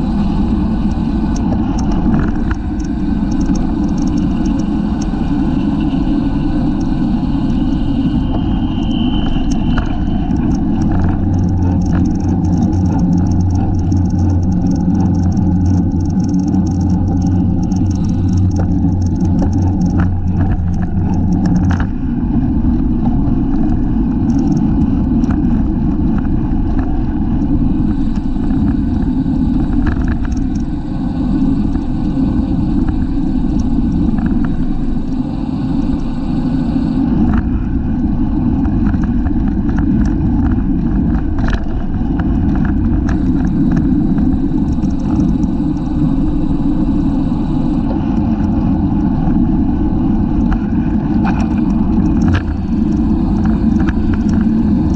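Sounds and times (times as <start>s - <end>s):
bicycle clicks and rattles: 0.0s - 35.2s, 37.1s - 54.9s
low hum: 0.0s - 54.9s
wind rumbling on microphone: 0.0s - 54.9s.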